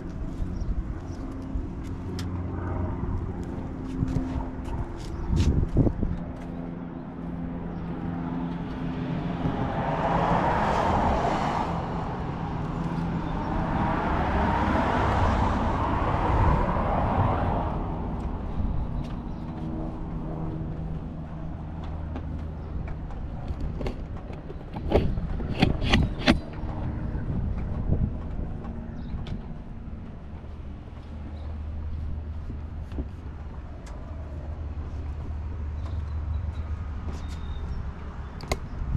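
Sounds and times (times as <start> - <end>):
passing vehicle road noise: 0.0 - 38.9.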